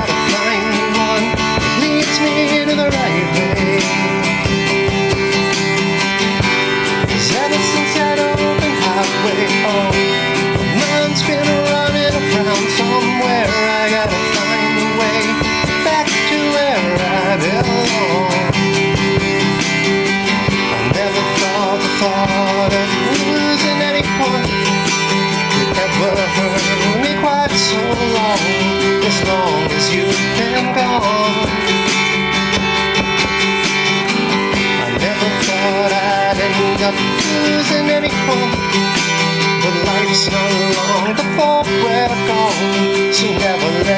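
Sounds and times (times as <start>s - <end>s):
man singing: 0.0s - 43.9s
strummed acoustic guitar: 0.0s - 43.9s.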